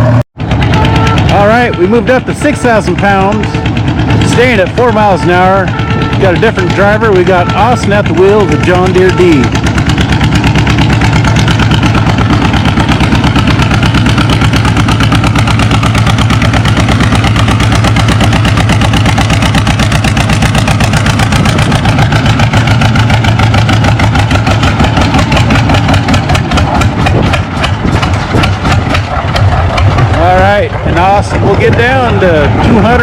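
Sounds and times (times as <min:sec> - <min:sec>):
tractor engine pulling under load: 0:00.0 - 0:33.0.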